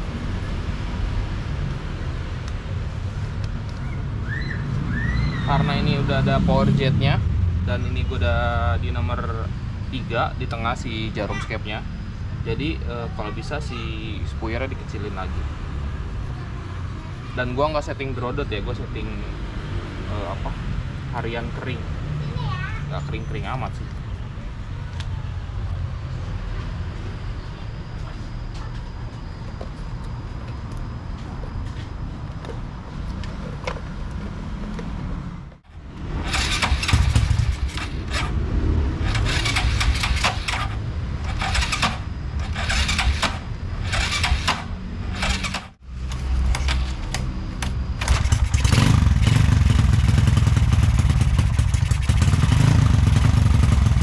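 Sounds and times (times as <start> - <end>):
motorcycle engine idling and revving: 0.0 - 28.2, 32.0 - 54.0.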